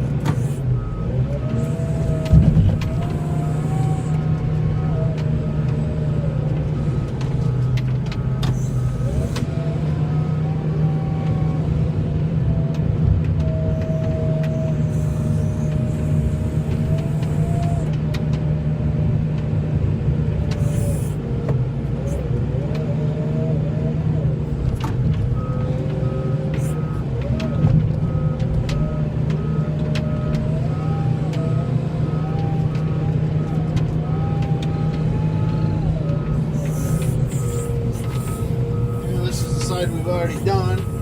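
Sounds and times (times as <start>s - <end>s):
faint wavering whine: 0.0s - 11.7s, 13.7s - 17.9s, 20.6s - 21.2s, 24.5s - 41.0s
vehicle engine humming: 0.0s - 41.0s.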